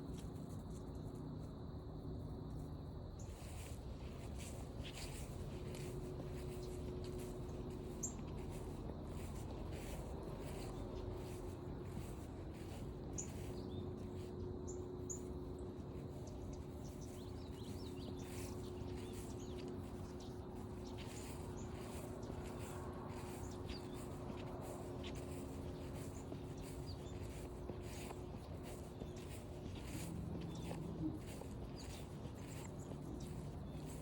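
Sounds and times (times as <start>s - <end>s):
steady low hum: 0.0s - 34.0s
birds chirping: 3.2s - 34.0s
footsteps on forest trail: 3.2s - 34.0s.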